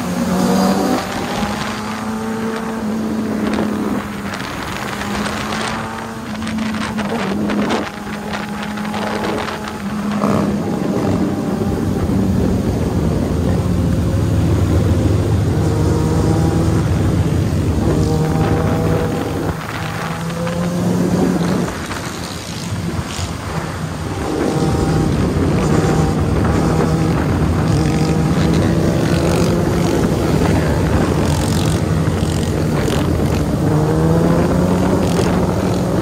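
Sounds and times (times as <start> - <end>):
motorcycle engine revving: 0.0 - 36.0
other motorcycles: 0.0 - 36.0
wind buffeting microphone: 0.0 - 36.0.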